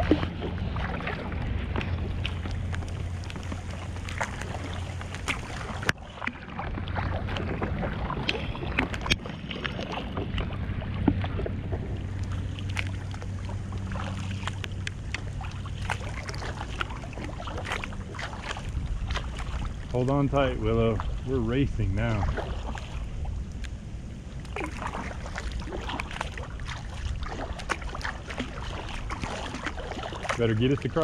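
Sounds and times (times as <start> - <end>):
paddle splashing in water: 0.0 - 31.0
steady low rumble: 0.0 - 31.0.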